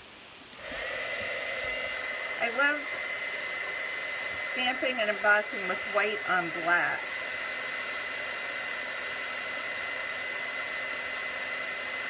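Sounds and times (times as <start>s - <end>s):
heat tool blowing with whine: 0.0s - 12.0s.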